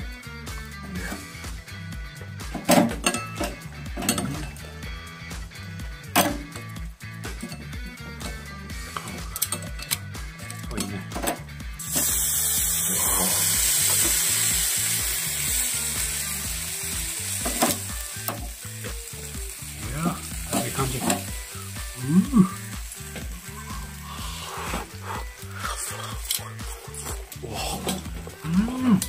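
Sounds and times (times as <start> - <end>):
okra sizzling on a grill: 2.4 - 8.0, 8.7 - 29.0.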